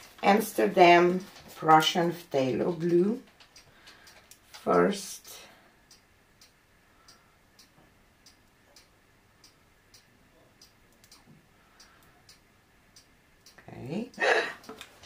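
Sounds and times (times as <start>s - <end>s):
faint regular ticking: 0.0s - 15.0s.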